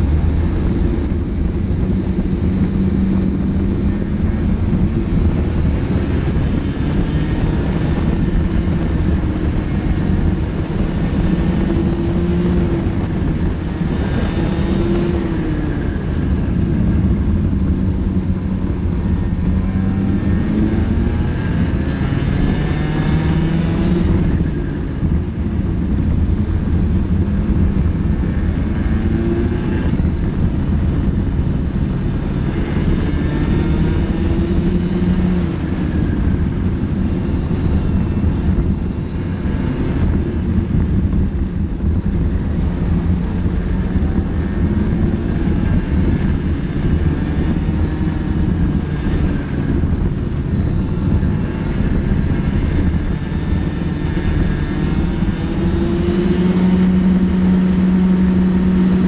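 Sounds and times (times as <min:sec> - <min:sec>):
heavy low rumble: 0:00.0 - 0:59.0.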